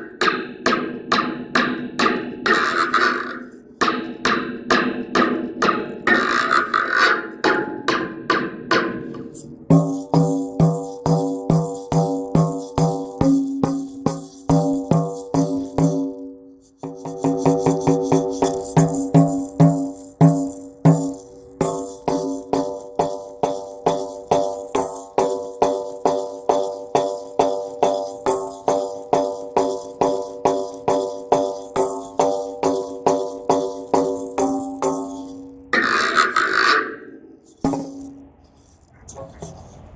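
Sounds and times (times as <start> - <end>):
rhythmic clanging percussion: 0.0 - 39.9.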